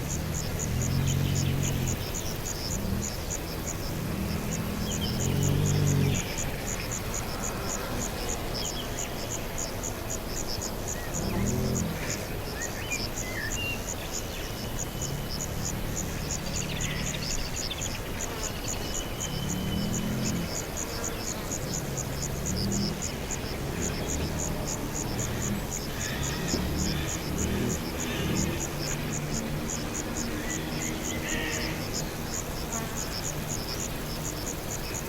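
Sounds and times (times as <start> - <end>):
insect chirping: 0.0 - 35.0.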